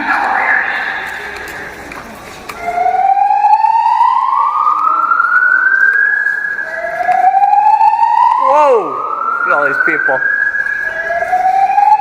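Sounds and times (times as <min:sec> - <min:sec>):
siren wailing: 0:00.0 - 0:01.8, 0:02.5 - 0:12.0.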